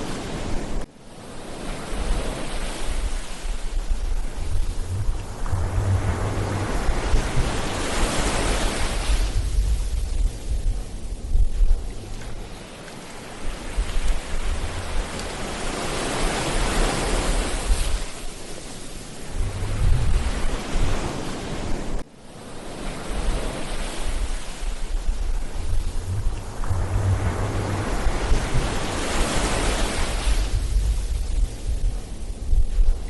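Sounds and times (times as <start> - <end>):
wind rumbling on microphone: 0.0 - 22.0, 22.6 - 33.0
ocean surf breaking on beach: 0.0 - 33.0.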